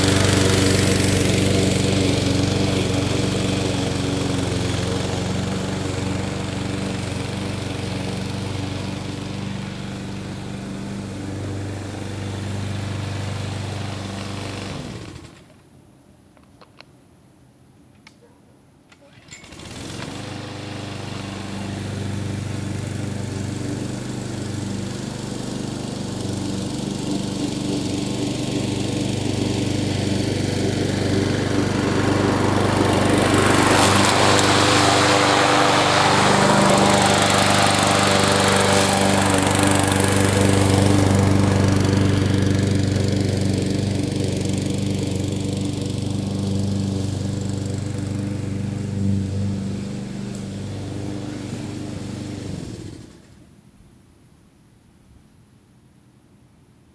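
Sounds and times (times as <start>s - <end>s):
lawn mower cutting grass: 0.0s - 15.6s, 19.0s - 53.5s.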